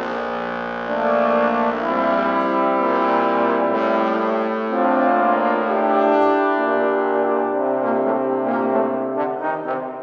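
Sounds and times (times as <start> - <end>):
trombones playing sustained chords: 0.0 - 10.0.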